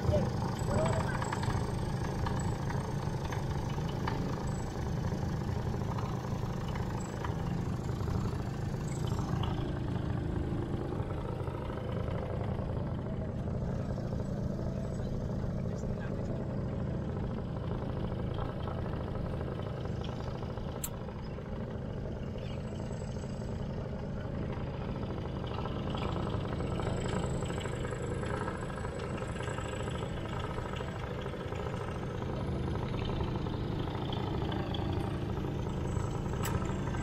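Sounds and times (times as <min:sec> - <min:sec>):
quad bike engine running: 0:00.0 - 0:37.0.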